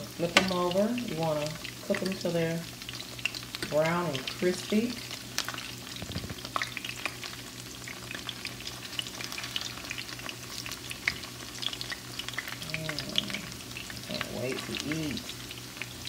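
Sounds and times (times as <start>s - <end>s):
batter deep-frying in oil: 0.0s - 16.0s.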